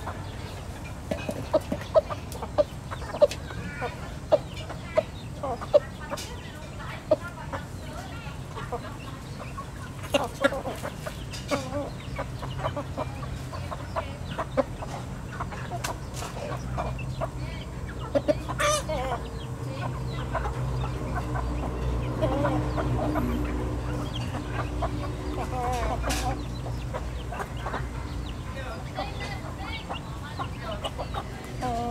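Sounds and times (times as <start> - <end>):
chickens clucking: 0.0 - 31.9.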